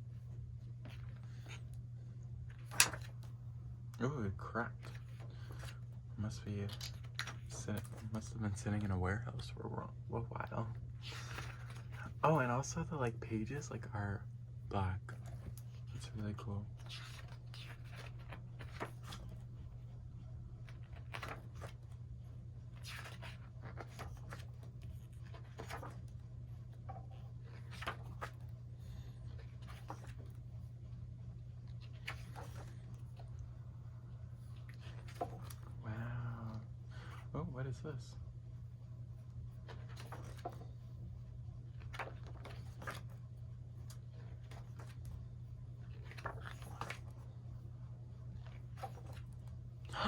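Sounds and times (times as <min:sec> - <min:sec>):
steady low hum: 0:00.0 - 0:50.0
paper pages rustling: 0:00.2 - 0:03.6, 0:04.7 - 0:08.9, 0:11.1 - 0:12.6, 0:15.1 - 0:36.1, 0:39.0 - 0:49.8.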